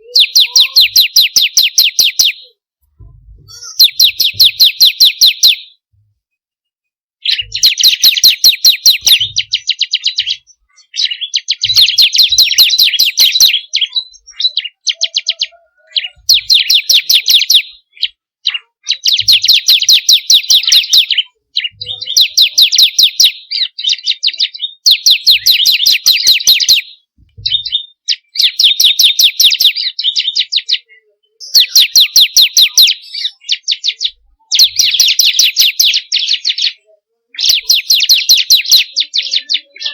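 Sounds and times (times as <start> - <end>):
bird singing high sharp notes: 0.0 - 2.5, 3.4 - 5.8, 7.2 - 36.8, 37.4 - 39.9.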